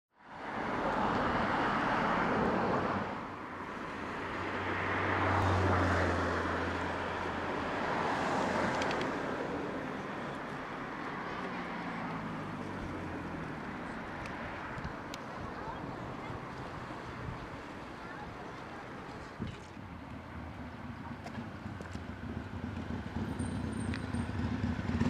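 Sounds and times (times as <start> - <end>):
road traffic noise: 0.1 - 25.0
vehicle passing: 0.4 - 25.0.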